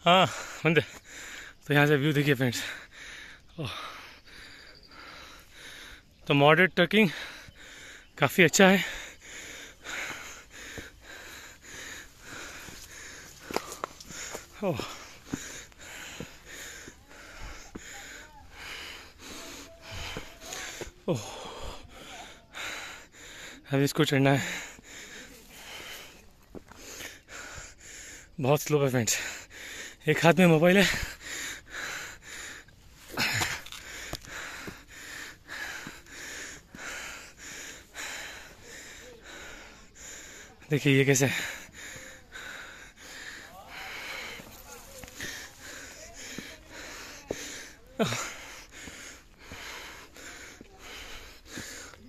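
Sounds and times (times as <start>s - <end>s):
person breathing hard: 0.0s - 1.6s, 2.6s - 6.2s, 7.0s - 28.4s, 29.0s - 30.1s, 30.8s - 52.0s
man panting: 0.0s - 52.0s.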